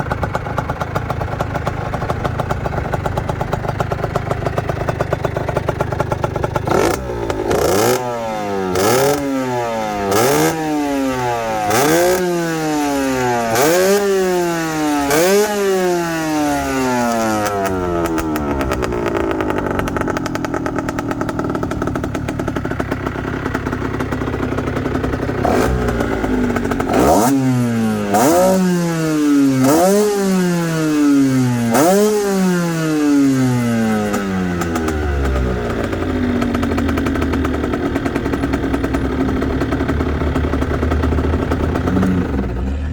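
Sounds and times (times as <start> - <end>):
two-stroke engine idling and revving: 0.0 - 42.9.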